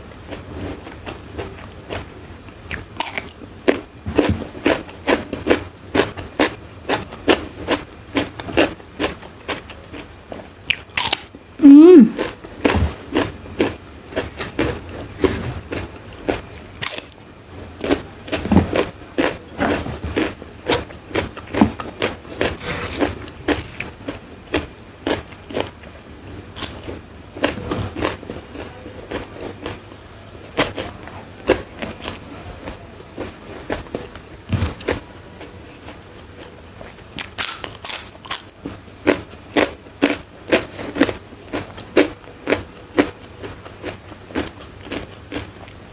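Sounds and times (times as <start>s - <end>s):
person chewing crisp food: 0.1s - 45.9s.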